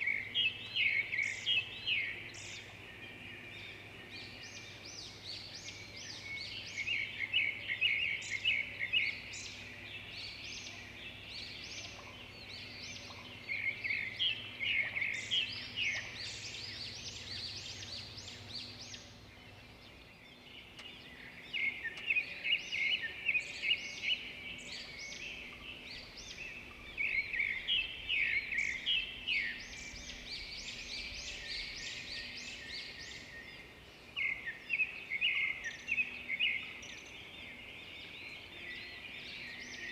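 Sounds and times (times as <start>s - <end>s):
faint outdoor background: 0.0s - 39.9s
songbirds chirping: 0.0s - 39.9s.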